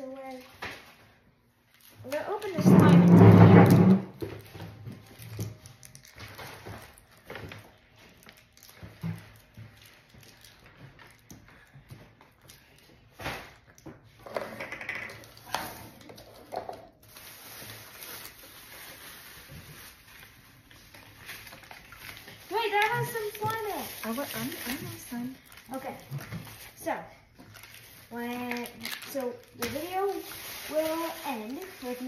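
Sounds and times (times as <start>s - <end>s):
plastic packaging rustling: 0.0s - 14.2s, 15.1s - 32.0s
plastic packaging crinkling: 0.2s - 2.7s, 4.1s - 13.9s, 15.1s - 32.0s.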